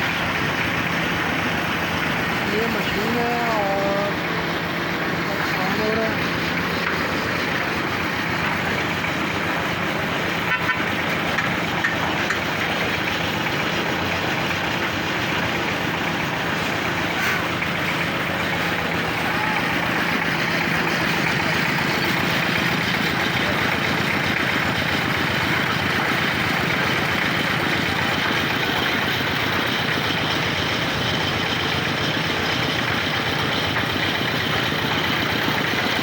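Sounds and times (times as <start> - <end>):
concrete mixer engine running: 0.0 - 36.0.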